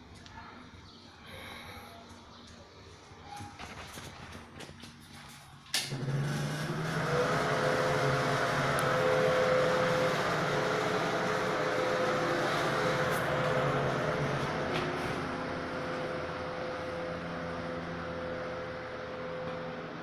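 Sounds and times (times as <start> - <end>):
electric fan whooshing: 3.7 - 20.0.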